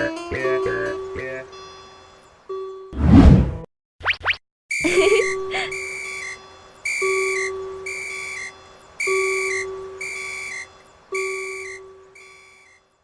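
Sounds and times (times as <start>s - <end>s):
railroad crossing warning chime: 0.1s - 3.0s, 4.9s - 13.0s.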